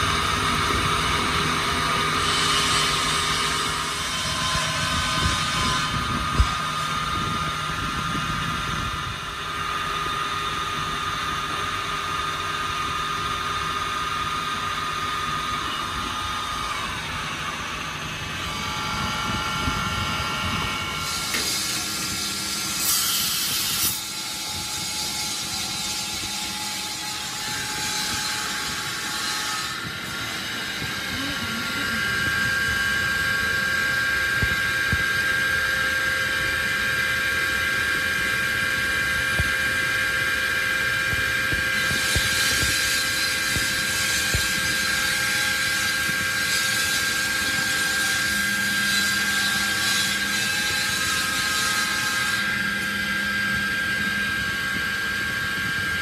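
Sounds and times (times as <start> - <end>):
machine running with high whine: 0.0 - 56.0.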